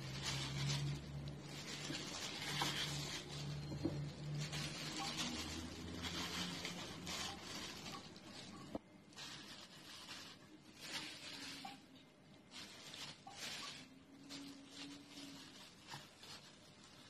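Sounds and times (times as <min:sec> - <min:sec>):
plastic cling film crinkling: 0:00.0 - 0:17.0.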